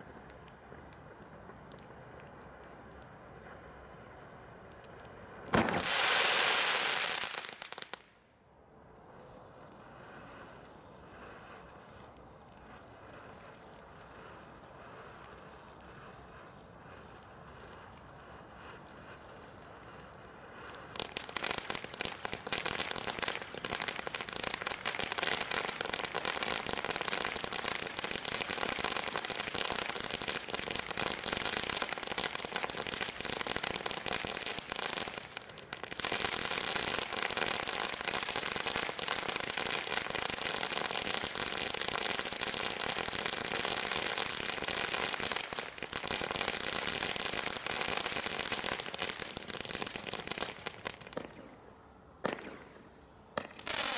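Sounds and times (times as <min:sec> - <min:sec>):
fireworks crackling: 0:00.0 - 0:08.2, 0:08.8 - 0:53.9.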